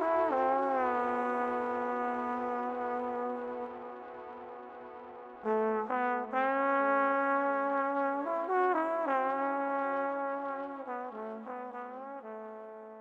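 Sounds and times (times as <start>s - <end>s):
solo brass melody: 0.0s - 13.0s.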